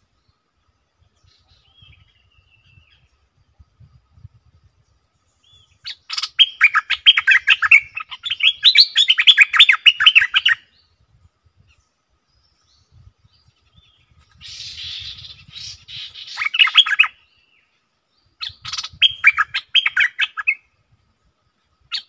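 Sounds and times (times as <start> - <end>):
bird singing: 0.0 - 3.8, 4.7 - 22.0.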